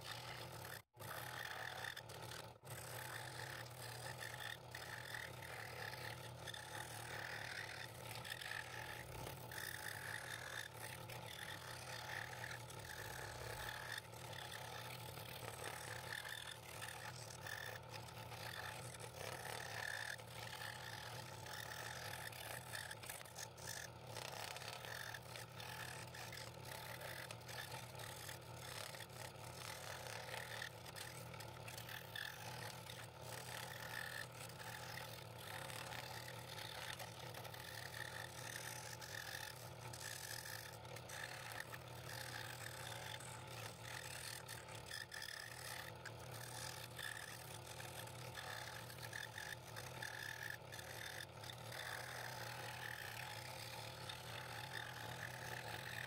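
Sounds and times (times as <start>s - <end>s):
scroll saw cutting wood: 0.0s - 56.0s.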